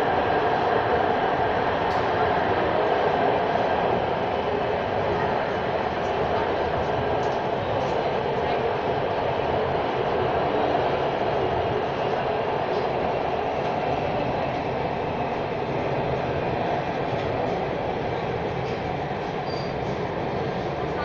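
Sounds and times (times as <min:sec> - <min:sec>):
train rolling at speed: 0:00.0 - 0:21.0.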